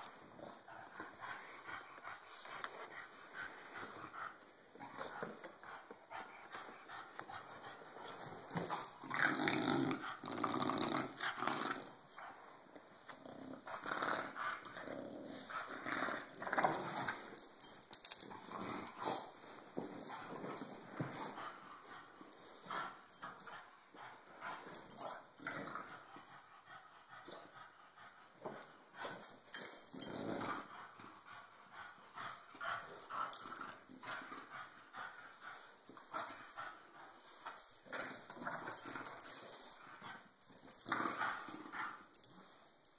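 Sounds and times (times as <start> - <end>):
dogs growling: 0.0 - 42.5.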